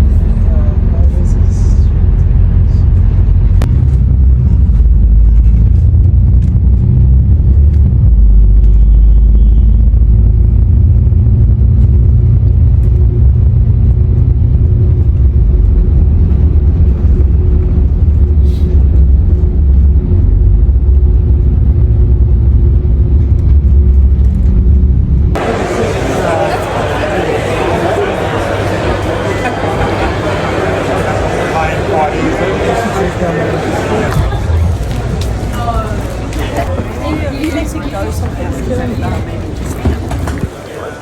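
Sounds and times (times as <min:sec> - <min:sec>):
constant hum: 0:00.0 - 0:41.0
engine rumbling: 0:00.0 - 0:41.0.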